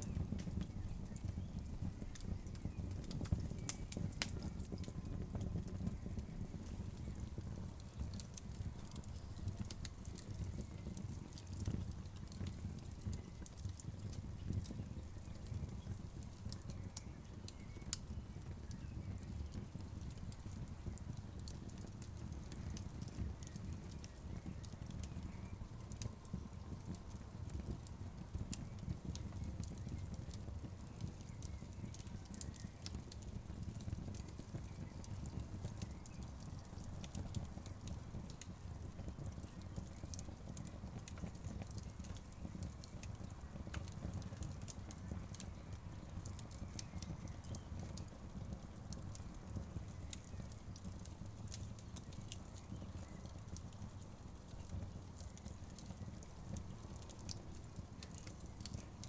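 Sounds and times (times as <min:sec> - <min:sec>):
low rumble of fire: 0:00.0 - 0:59.0
wood fire crackling and popping: 0:00.0 - 0:59.0.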